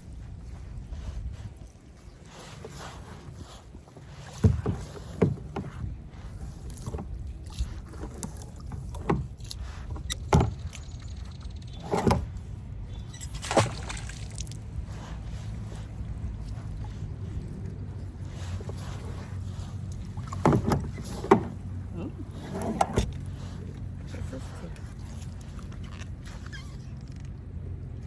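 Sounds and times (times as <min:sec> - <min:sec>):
steady low rumble: 0:00.0 - 0:02.1, 0:05.8 - 0:28.0
paddle knocking and splashing: 0:00.0 - 0:27.7.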